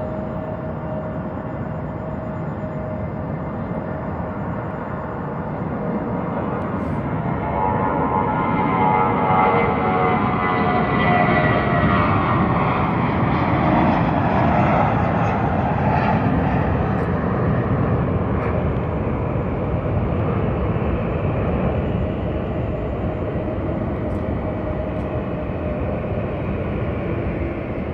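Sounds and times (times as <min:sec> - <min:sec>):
jet engines roaring at takeoff: 0:00.0 - 0:27.9.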